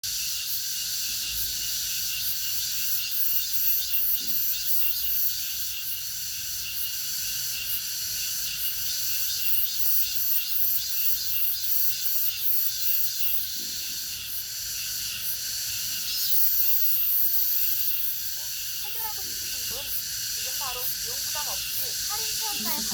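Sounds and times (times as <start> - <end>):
cicadas buzzing: 0.0 - 22.9.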